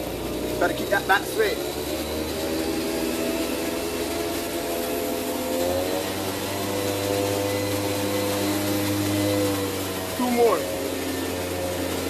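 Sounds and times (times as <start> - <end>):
motor running steadily: 0.0 - 12.0.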